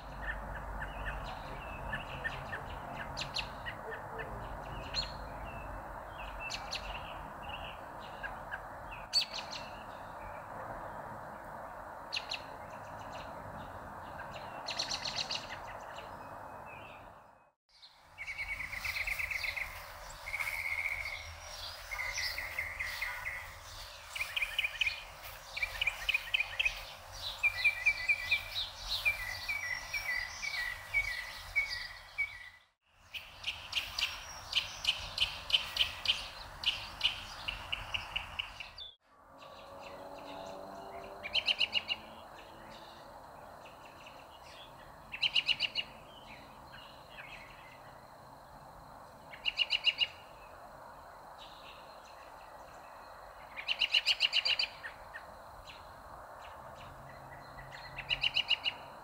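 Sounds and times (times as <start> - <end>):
songbirds chirping and singing: 0.0 - 50.6, 51.2 - 59.0.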